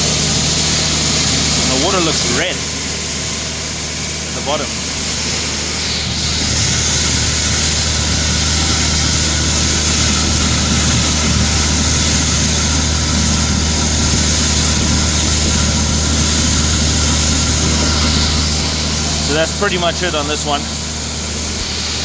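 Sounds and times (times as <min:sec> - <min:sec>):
engine and vacuum pump running: 0:00.0 - 0:22.0
suction hose hissing: 0:00.0 - 0:22.0.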